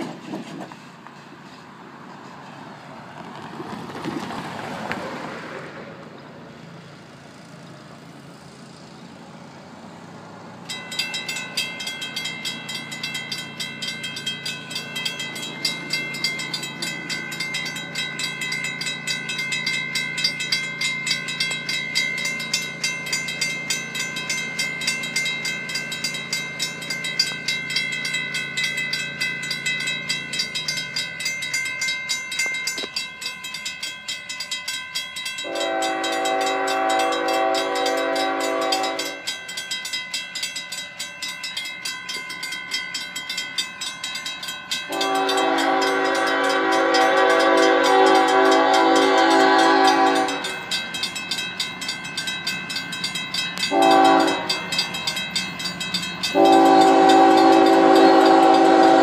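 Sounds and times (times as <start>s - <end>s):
mechanical crossing bells ringing: 10.6s - 59.0s.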